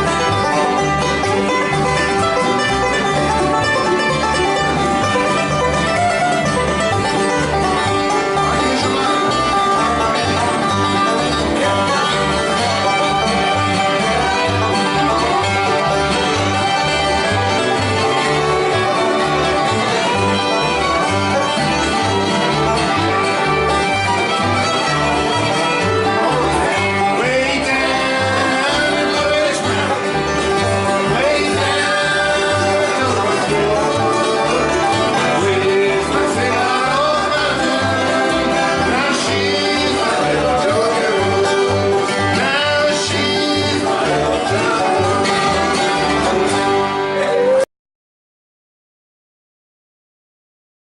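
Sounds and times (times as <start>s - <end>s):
low bass notes: 0.0s - 47.2s
acoustic bluegrass band playing: 0.0s - 47.6s.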